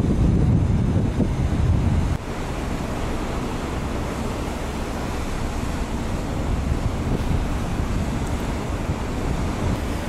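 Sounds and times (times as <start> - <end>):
rush of wind and sea: 0.0 - 10.0
wind buffeting microphone: 0.0 - 10.0.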